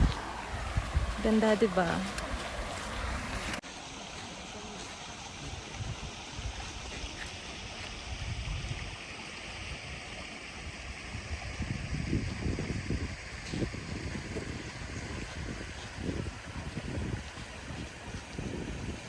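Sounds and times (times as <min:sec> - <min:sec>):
wind buffeting microphone: 0:00.0 - 0:03.6, 0:05.4 - 0:09.0, 0:10.6 - 0:19.0
flowing stream water: 0:00.0 - 0:19.0.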